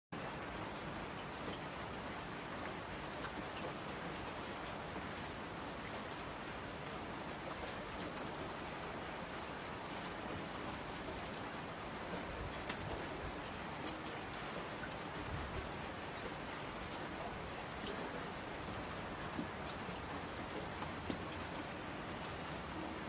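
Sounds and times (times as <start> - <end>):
steady rain falling: 0.1 - 23.0
raindrop ticks: 0.2 - 6.0, 6.8 - 8.8, 11.0 - 23.0.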